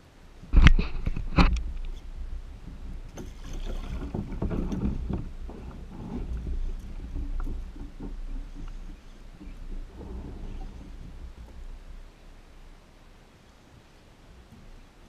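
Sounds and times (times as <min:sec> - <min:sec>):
wind rumble on microphone: 0:00.0 - 0:15.0
water lapping against kayak hull: 0:00.4 - 0:15.0
small knocks: 0:00.6 - 0:12.7.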